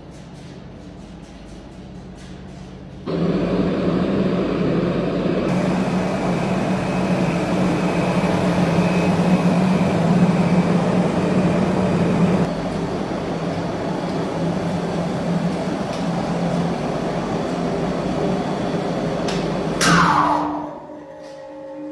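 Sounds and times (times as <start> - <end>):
elevator hoist machine humming: 0.0 - 21.9.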